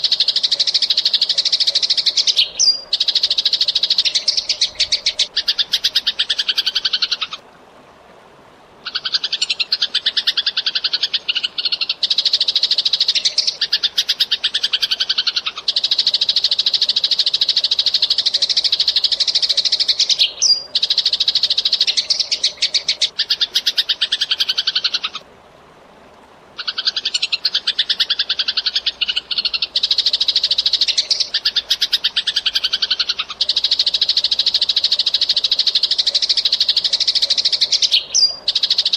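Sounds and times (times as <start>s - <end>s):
sparrow chirping: 0.2s - 7.4s, 8.9s - 25.2s, 26.6s - 38.9s.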